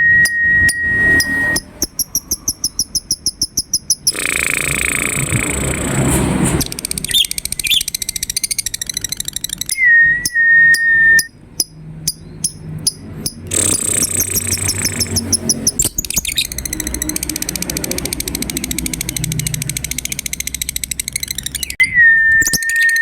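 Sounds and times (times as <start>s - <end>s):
lovebird chirping and chattering: 0.0s - 6.0s, 6.6s - 23.0s.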